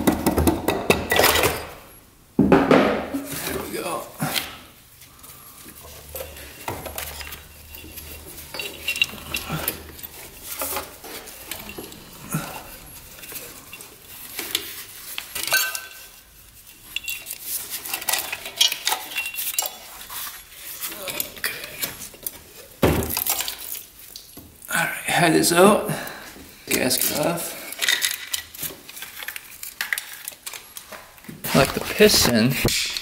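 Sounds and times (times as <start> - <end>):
metal tools and parts clanking: 0.8 - 2.0, 5.3 - 24.4, 26.6 - 33.0.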